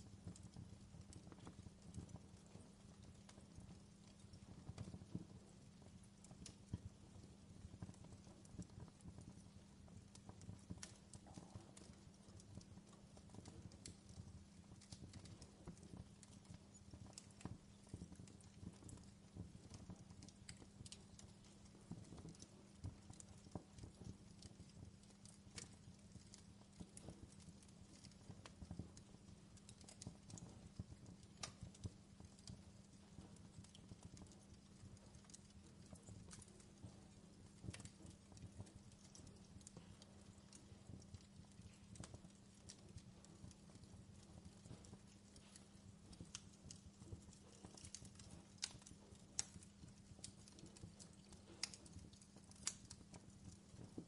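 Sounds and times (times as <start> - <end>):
fireplace crackling: 0.0 - 54.0
low steady hum: 0.0 - 54.0.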